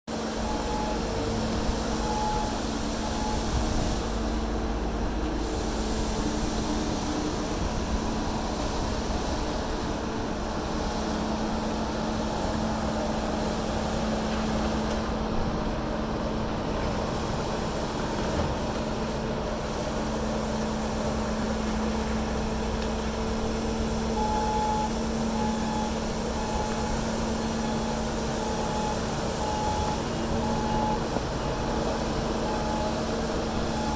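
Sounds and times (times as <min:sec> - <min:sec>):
reversing alarm beeping: 0:00.1 - 0:15.1, 0:16.6 - 0:33.9
diesel machinery running: 0:00.1 - 0:33.9.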